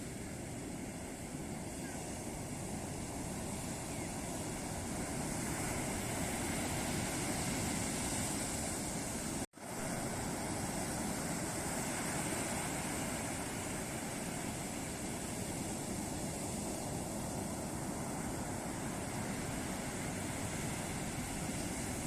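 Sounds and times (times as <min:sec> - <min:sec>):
ocean surf waves breaking: 0:00.0 - 0:22.0.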